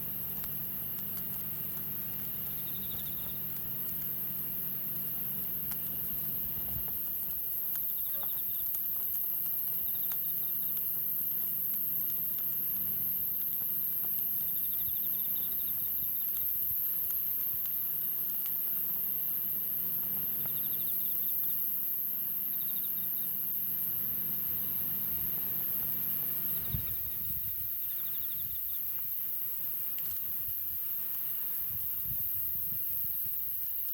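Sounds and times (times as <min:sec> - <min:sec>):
campfire crackling and popping: 0:00.0 - 0:22.1, 0:23.4 - 0:33.4
insects trilling: 0:00.0 - 0:33.9.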